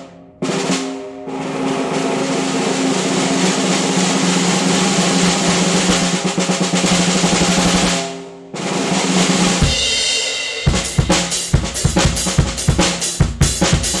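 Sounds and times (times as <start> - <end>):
snare drum roll: 0.0 - 14.0.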